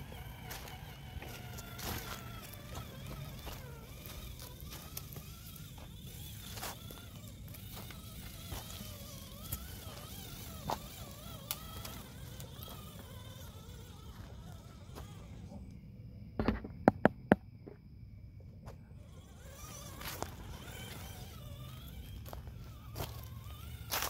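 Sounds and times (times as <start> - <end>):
leaves and twigs crackling: 0.0 - 15.2, 19.5 - 24.0
electric motor whining: 0.0 - 15.8, 19.0 - 24.0.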